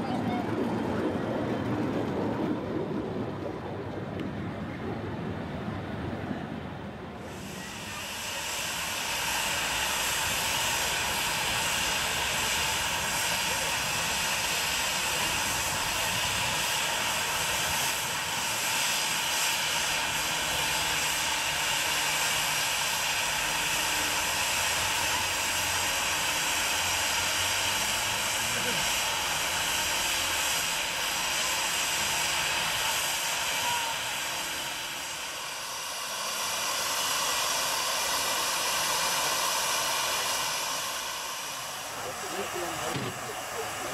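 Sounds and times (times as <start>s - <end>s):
steam locomotive hissing: 7.2s - 43.9s.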